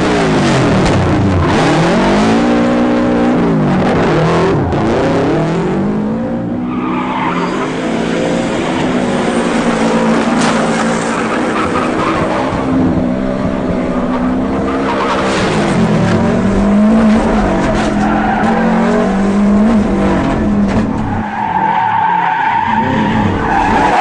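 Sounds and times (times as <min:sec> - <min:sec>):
rally car engine revving: 0:00.0 - 0:24.0
tyres skidding and squealing: 0:00.0 - 0:24.0.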